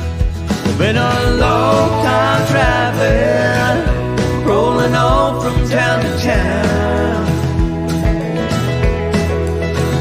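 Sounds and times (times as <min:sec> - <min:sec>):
country music: 0:00.0 - 0:10.0.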